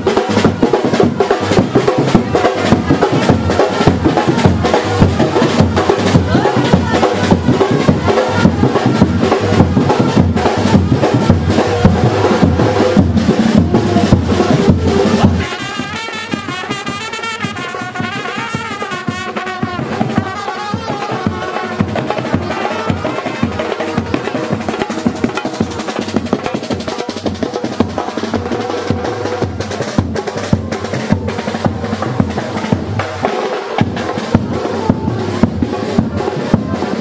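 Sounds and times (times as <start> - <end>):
light percussion: 0.0 - 37.0
loud dense drumming: 0.0 - 37.0.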